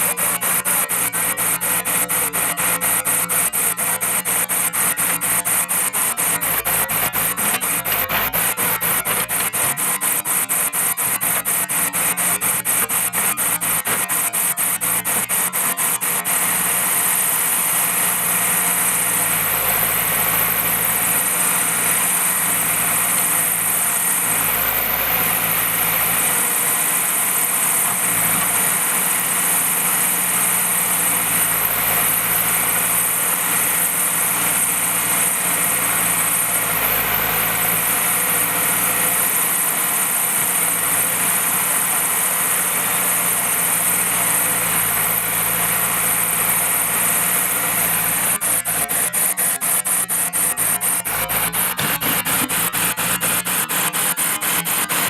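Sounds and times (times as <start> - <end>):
fast sharp ticks: 0.0 - 55.0
heavy machinery diesel engine: 0.0 - 55.0.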